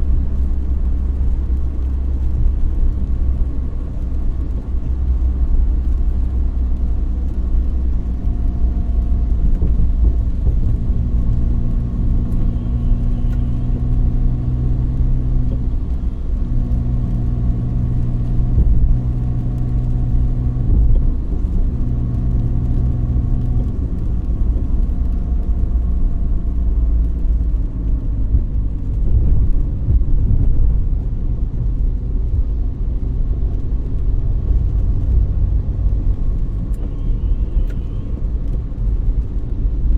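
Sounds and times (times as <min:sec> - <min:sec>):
car engine hum: 0:00.0 - 0:39.9
road rumble: 0:00.0 - 0:39.9.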